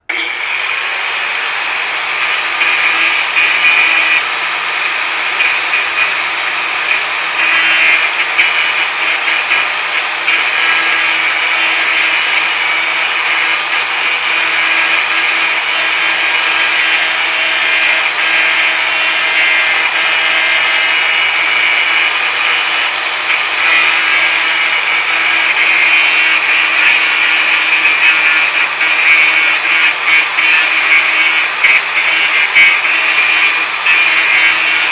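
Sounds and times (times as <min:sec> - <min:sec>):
angle grinder grinding metal: 0:00.0 - 0:34.9.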